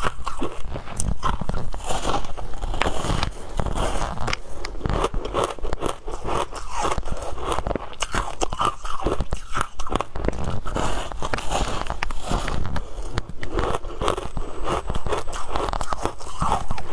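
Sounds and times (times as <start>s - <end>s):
ice crunching in mouth: 0.0s - 16.9s.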